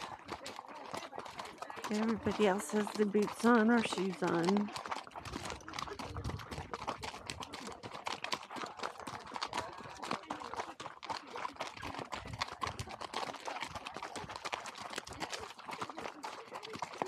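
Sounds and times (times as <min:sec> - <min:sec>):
hooves crunching on gravel: 0:00.0 - 0:17.0.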